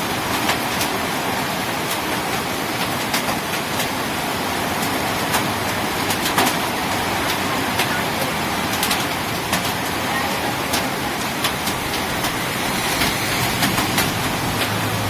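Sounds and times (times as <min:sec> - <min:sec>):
heavy rain hissing: 0:00.0 - 0:15.0
large raindrops splatting: 0:00.0 - 0:15.0.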